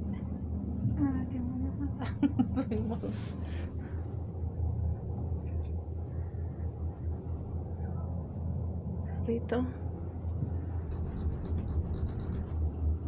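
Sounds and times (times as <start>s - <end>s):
gondola cabin low rumble: 0.0s - 13.0s.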